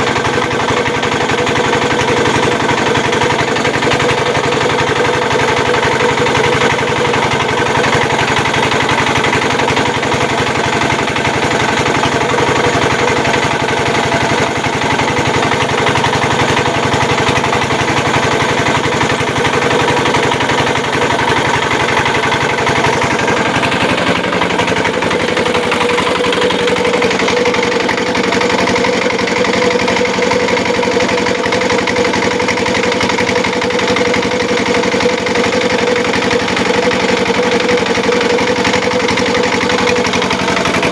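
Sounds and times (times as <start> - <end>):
grinding machine engine running: 0.0 - 40.9.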